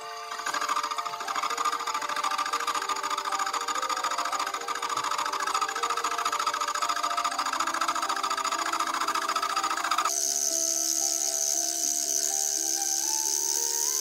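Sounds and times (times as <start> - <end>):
milling cutter chattering on metal: 0.2 - 14.0.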